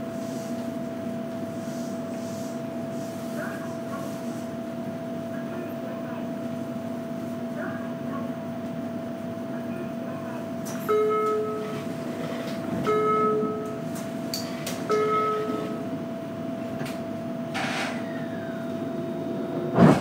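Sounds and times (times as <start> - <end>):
train electrical hum: 0.0 - 20.0.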